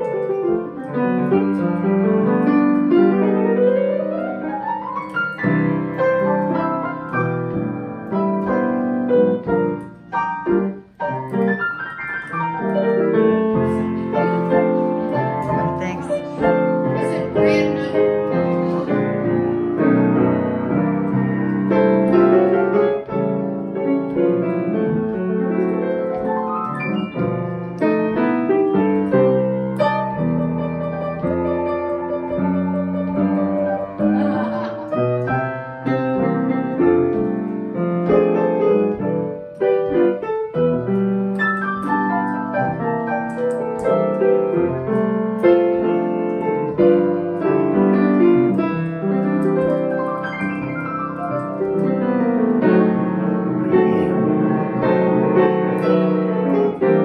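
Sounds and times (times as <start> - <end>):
grand piano solo: 0.0 - 57.0.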